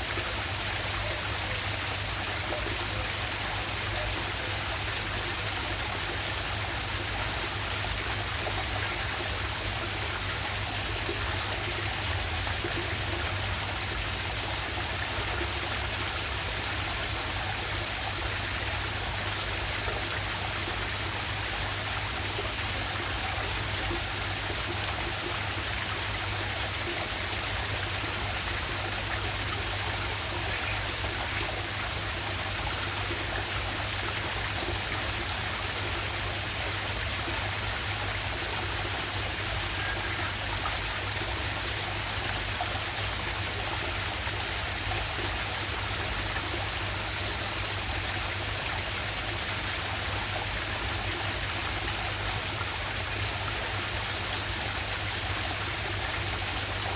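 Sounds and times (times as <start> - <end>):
small waterfall rushing: 0.0 - 56.9.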